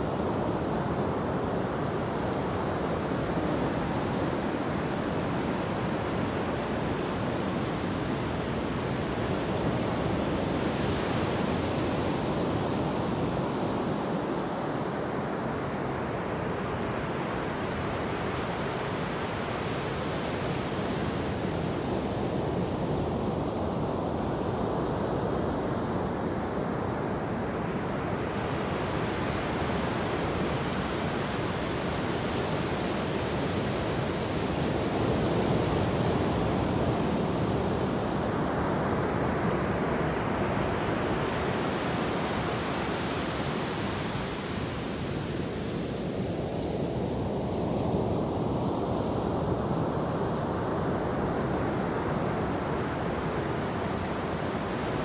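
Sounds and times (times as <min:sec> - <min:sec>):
ocean surf on sandy beach: 0:00.0 - 0:55.0.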